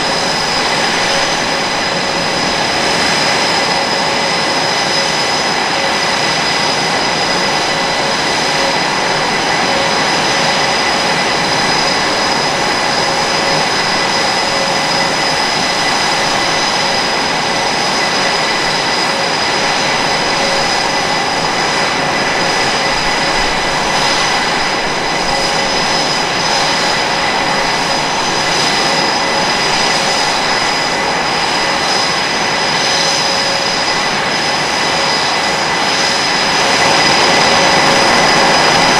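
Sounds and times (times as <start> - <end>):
jet engines rushing and whining: 0.0 - 38.9.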